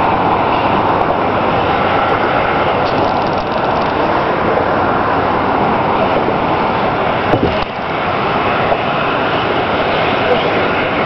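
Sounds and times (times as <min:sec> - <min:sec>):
wind and water rushing: 0:00.0 - 0:11.0.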